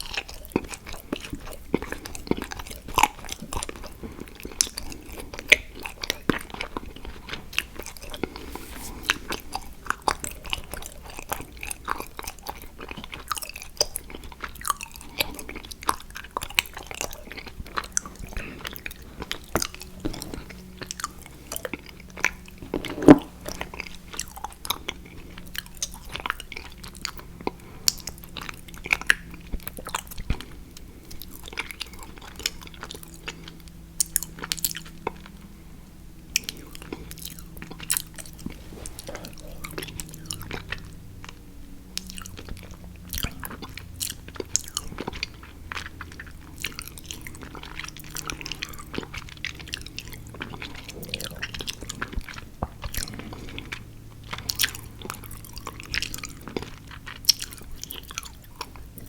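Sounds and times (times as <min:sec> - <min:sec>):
chewing crunchy chocolate: 0:00.0 - 0:59.0.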